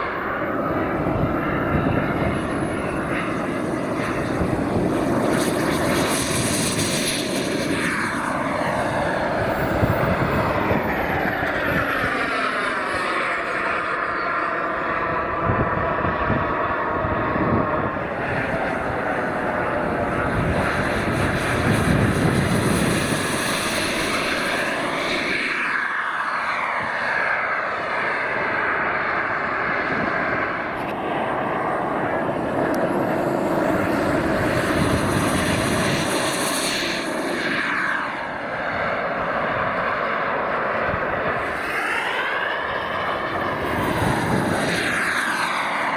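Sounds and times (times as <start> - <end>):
model jet turbine whine: 0.0 - 45.9.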